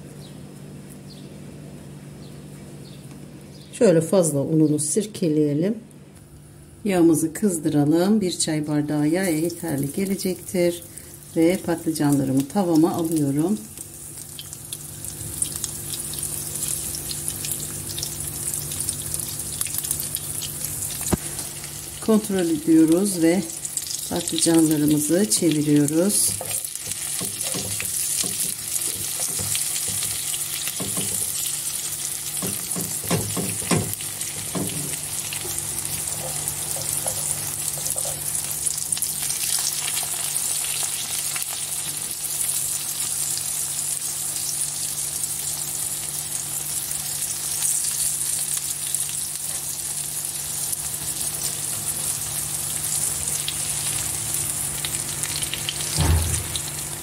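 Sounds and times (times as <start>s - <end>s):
eggplant sizzling in oil: 9.0s - 57.0s.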